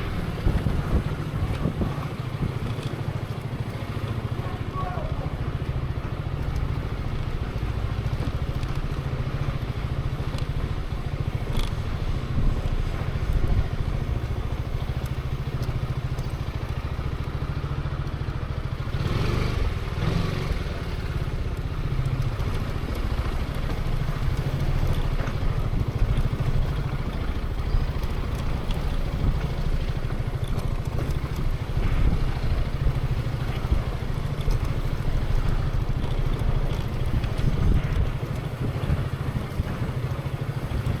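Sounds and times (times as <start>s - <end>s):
scooter engine running: 0.0s - 41.0s.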